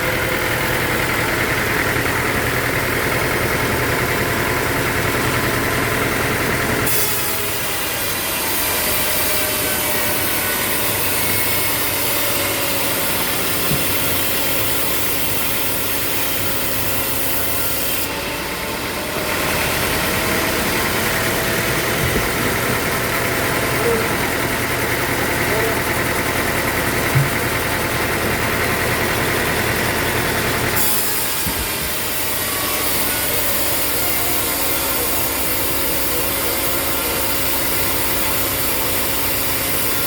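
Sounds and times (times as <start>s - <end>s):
saw cutting wood: 0.0s - 40.0s
sawmill machinery running: 0.0s - 40.0s.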